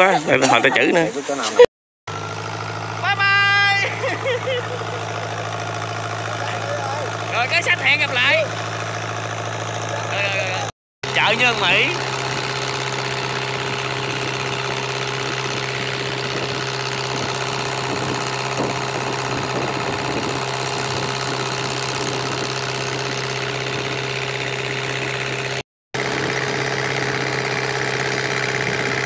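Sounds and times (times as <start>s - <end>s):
boat engine droning: 2.1s - 29.0s.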